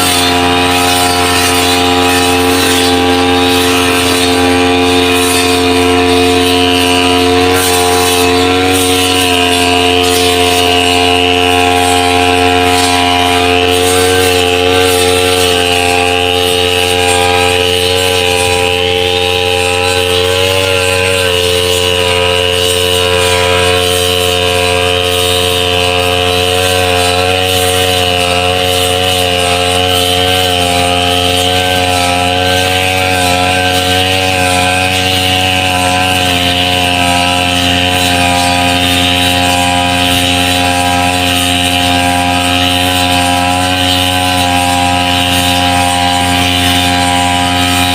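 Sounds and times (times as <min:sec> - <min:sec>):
brush cutter engine running: 0:00.0 - 0:47.9.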